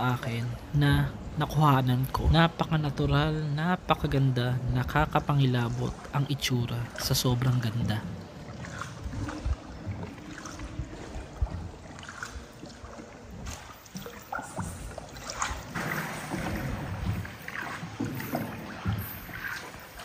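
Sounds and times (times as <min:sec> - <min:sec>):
paddle splashes: 0:00.0 - 0:20.0
water drips: 0:03.9 - 0:20.0.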